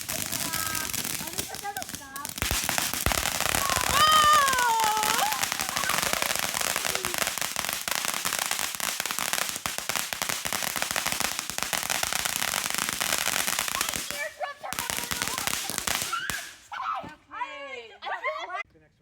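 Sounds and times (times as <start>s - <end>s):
firework crackling: 0.0s - 16.7s.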